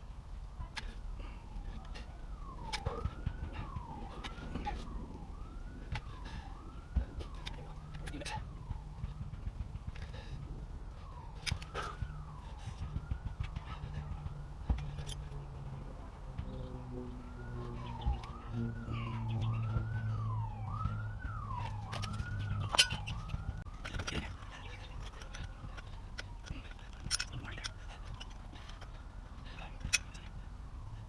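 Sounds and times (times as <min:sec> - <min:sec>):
low steady hum: 0:00.0 - 0:31.0
siren wailing: 0:00.0 - 0:31.0.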